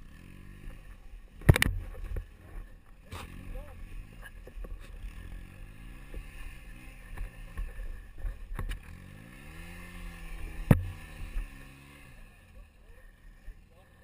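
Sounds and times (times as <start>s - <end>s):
engine revving: 0.0s - 13.5s.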